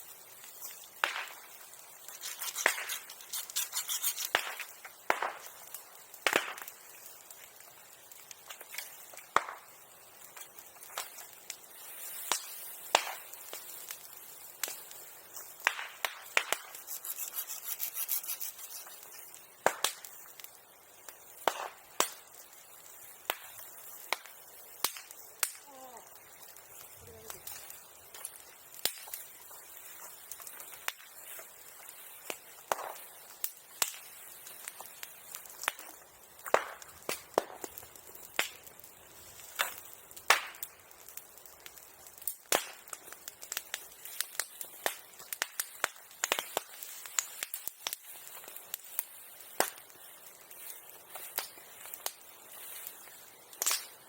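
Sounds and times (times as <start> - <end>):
bonfire crackling and popping: 0.0 - 54.0.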